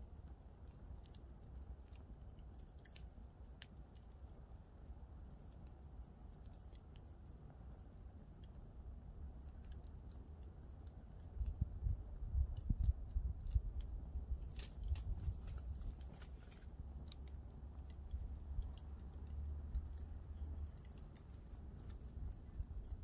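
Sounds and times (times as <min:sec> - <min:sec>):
campfire crackling: 0:00.0 - 0:23.0
steady low rumble: 0:00.0 - 0:23.0.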